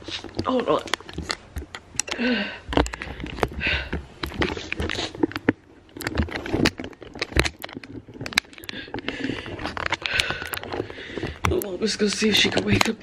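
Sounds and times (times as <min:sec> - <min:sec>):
camera handling noise: 0:00.0 - 0:11.7.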